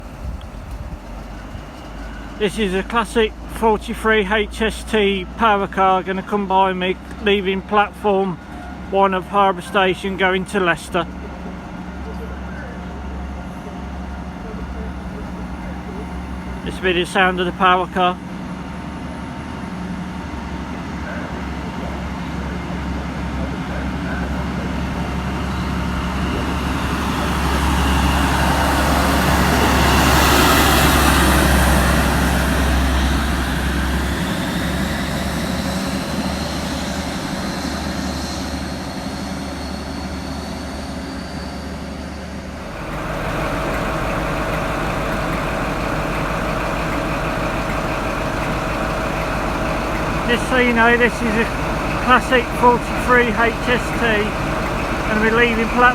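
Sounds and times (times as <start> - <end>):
diesel train passing: 0.0 - 55.9.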